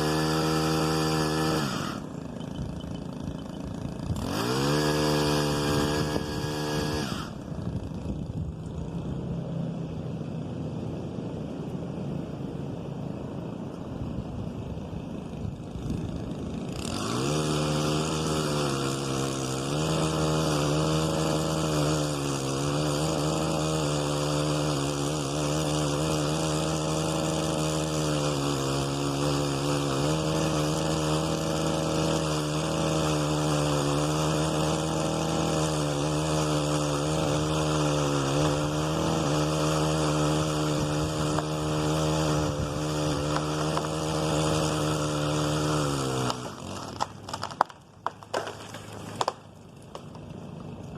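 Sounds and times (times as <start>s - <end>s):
pole saw cutting: 0.0s - 9.2s, 15.1s - 50.9s.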